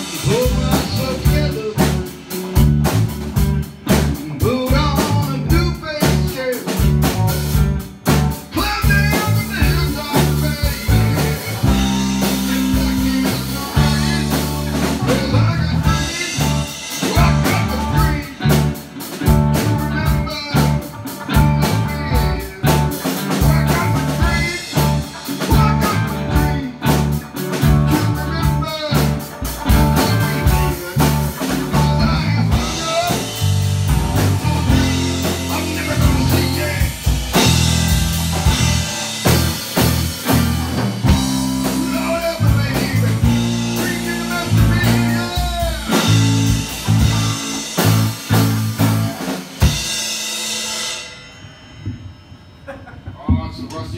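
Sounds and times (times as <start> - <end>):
blues-rock band playing: 0.0 - 53.9
drum kit beat: 0.0 - 53.9
electric guitars: 0.0 - 53.9
harmonica bending lead line: 0.0 - 53.9.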